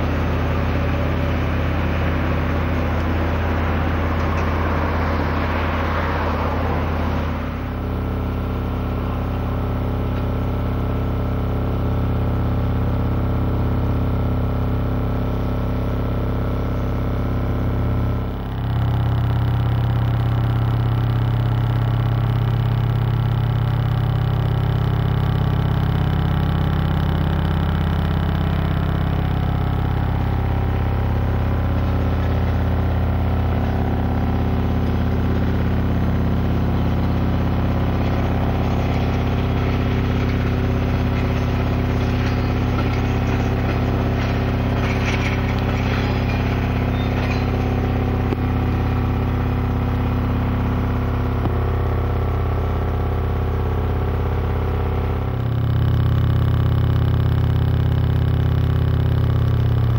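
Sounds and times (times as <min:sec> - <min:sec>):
loud electrical hum: 0:00.0 - 0:59.9
work vehicle engine running: 0:00.0 - 0:59.9.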